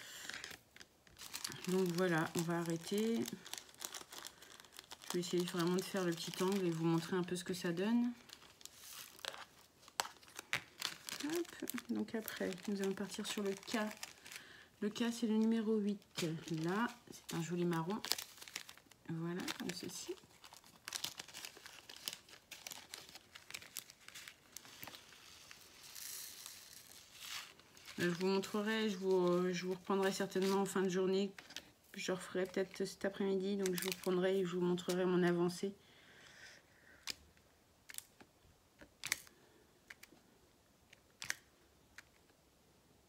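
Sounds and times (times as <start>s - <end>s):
plastic crinkling: 0.0s - 35.5s.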